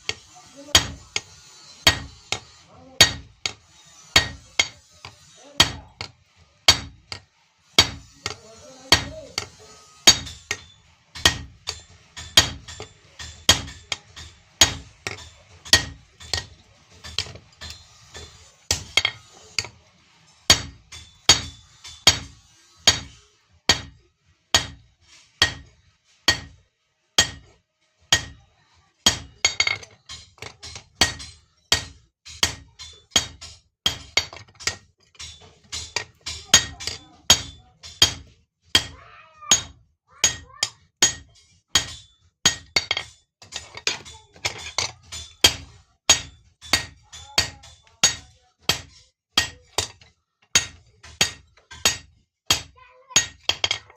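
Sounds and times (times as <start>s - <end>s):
hammer striking anvil: 0.0s - 19.8s, 20.5s - 24.8s, 25.4s - 25.7s, 26.3s - 26.6s, 27.2s - 28.4s, 29.0s - 53.9s.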